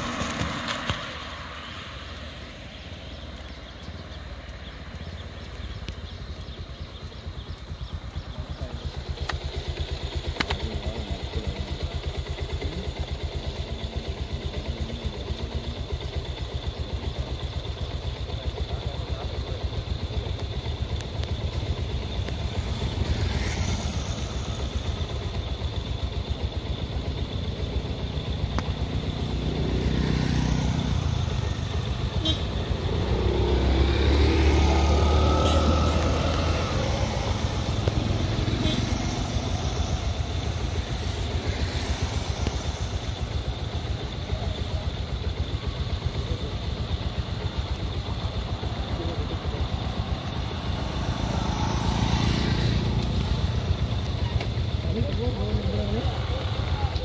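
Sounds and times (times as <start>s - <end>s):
motorcycle engines approaching: 0.0s - 57.0s
vehicle engine idling: 0.0s - 57.0s.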